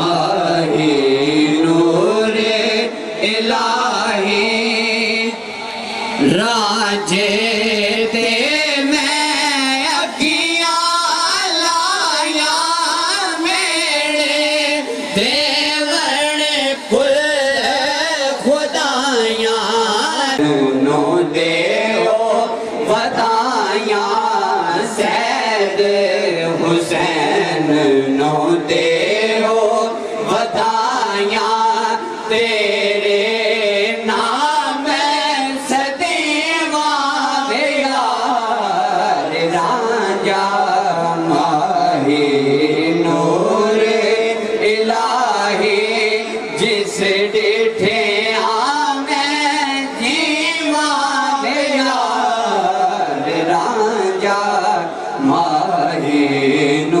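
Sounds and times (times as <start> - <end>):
men singing through microphone: 0.0 - 57.0.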